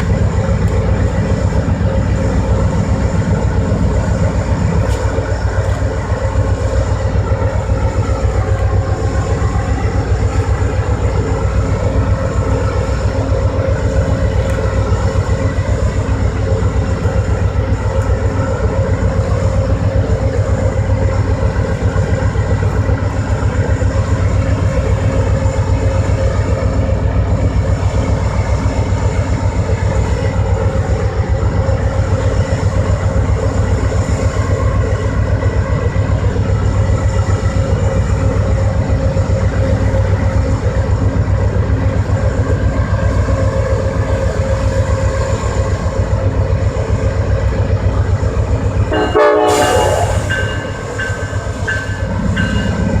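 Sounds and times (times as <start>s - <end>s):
diesel locomotive rumbling: 0.0s - 53.0s.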